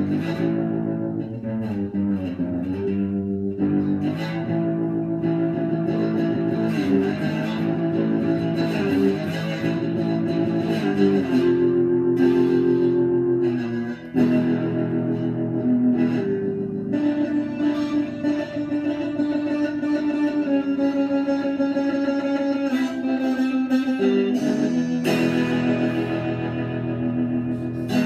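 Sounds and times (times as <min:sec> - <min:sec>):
electric guitar: 0:00.0 - 0:28.0.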